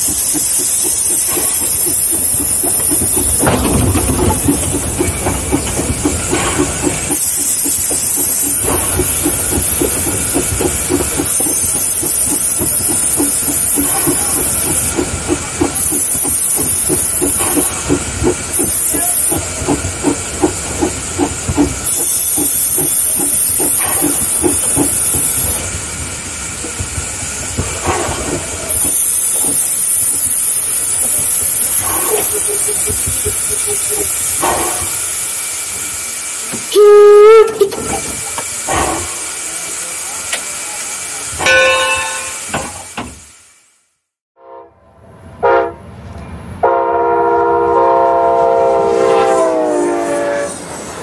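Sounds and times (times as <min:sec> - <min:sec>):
steam locomotive exhaust beats: 0:00.0 - 0:43.8, 0:44.4 - 0:51.0
high steam hiss: 0:00.0 - 0:43.9.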